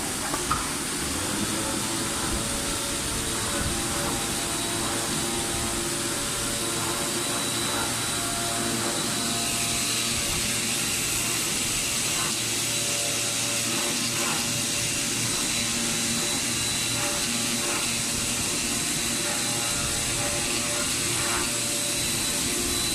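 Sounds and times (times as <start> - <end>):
cutting machine whirring hiss: 0.0 - 22.9
thin high whine: 0.0 - 22.9.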